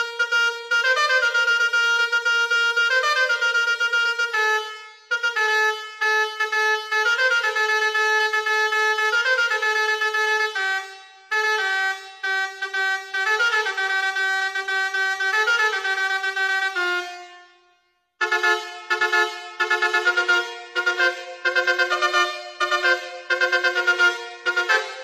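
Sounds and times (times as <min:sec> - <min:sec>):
multi-tone horn playing a tune: 0:00.0 - 0:25.0.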